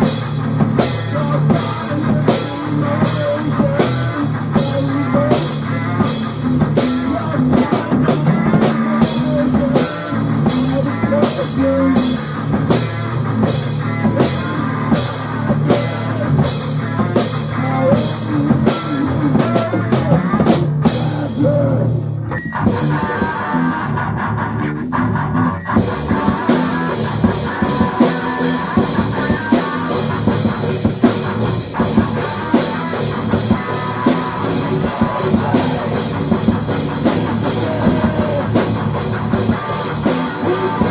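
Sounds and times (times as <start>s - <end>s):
instrumental rock music: 0.0s - 40.9s.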